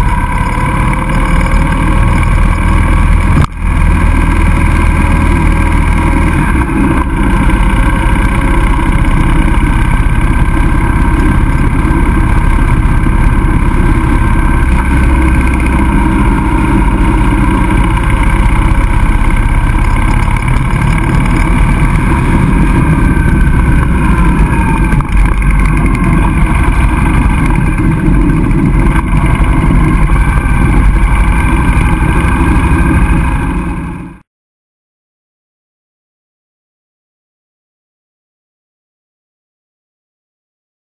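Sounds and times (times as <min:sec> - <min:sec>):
motorcycle engine running: 0:00.0 - 0:34.2
wind rushing: 0:00.0 - 0:34.2.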